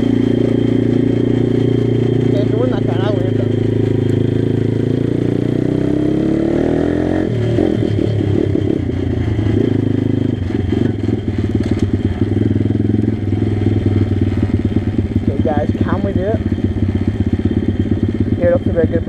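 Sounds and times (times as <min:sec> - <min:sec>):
pit bike engine revving: 0:00.0 - 0:19.0.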